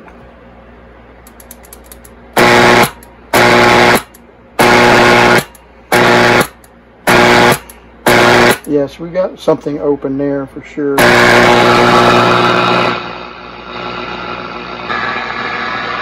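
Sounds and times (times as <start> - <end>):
radio speaker buzzing hum: 1.6 - 16.0.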